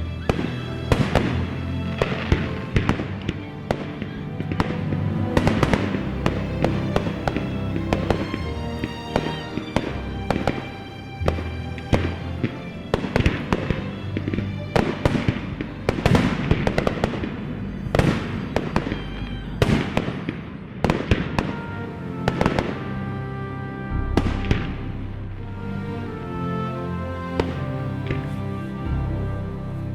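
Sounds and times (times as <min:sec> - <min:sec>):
background music with held tones: 0:00.0 - 0:20.2, 0:21.4 - 0:29.9.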